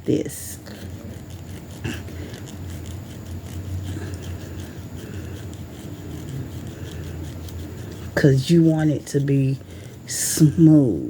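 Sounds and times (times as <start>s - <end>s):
nail file scratching fingernail: 0.1s - 11.0s.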